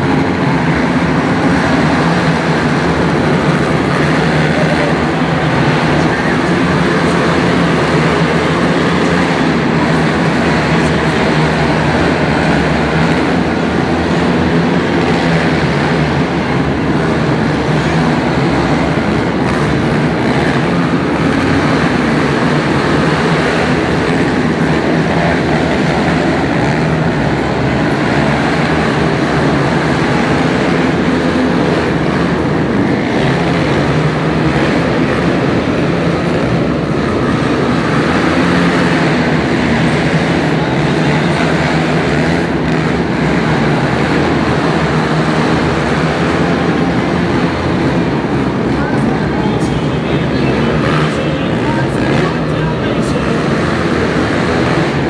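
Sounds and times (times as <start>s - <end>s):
racing quad engines: 0.0s - 55.0s.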